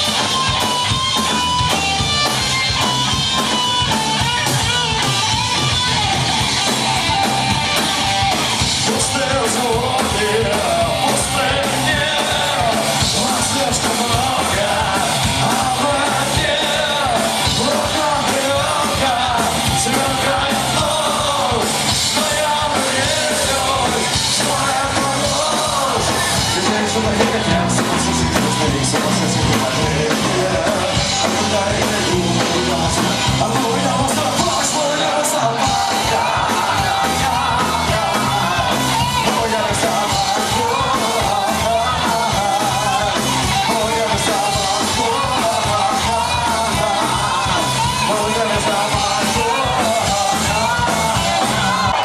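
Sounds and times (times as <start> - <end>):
drums: 0.0 - 52.0
punk rock band playing: 0.0 - 52.0
person yelling lead vocal: 8.2 - 52.0.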